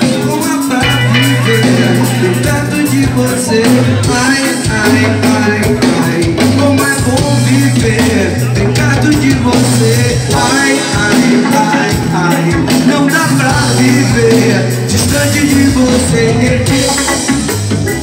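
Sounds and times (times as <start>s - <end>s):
live reggae band playing: 0.0s - 18.0s.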